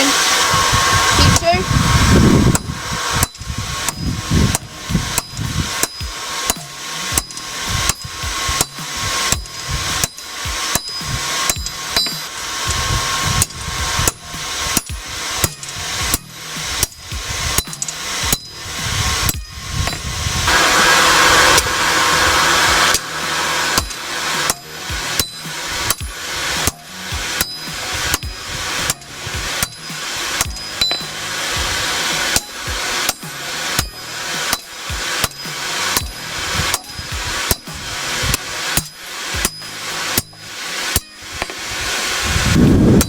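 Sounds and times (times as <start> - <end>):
steady rushing noise: 0.0 - 43.0
hammer striking steel on anvil: 2.5 - 41.6.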